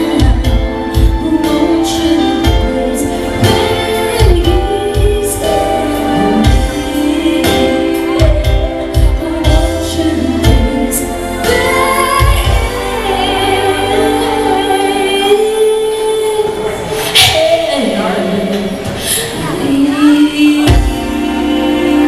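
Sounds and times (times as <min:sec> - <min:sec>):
person singing: 0:00.0 - 0:17.5, 0:19.1 - 0:22.0.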